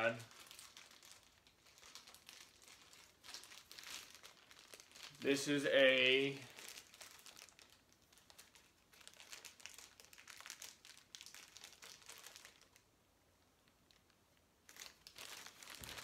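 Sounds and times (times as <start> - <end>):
plastic sleeve crinkling: 0.0 - 12.9, 13.6 - 16.0.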